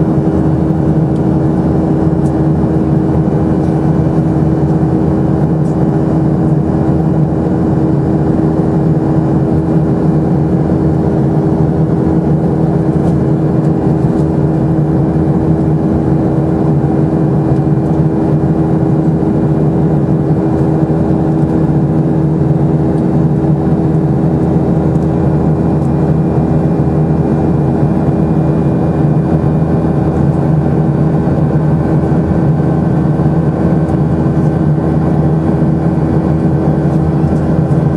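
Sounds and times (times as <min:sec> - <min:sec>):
jet engine cabin drone: 0:00.0 - 0:37.9.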